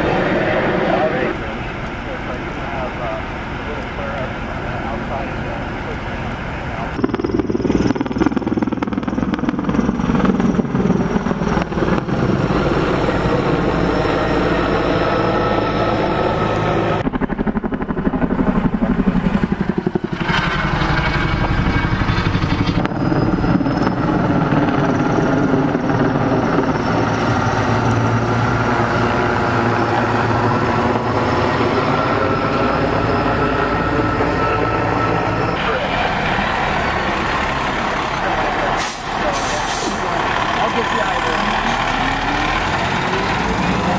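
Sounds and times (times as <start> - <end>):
helicopter rotor beat: 0.0 - 43.9
turbine whine: 0.0 - 43.9.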